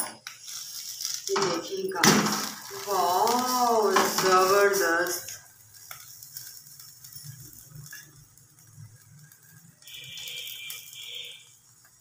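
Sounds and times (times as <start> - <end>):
bread sizzling in oil: 0.0 - 12.0.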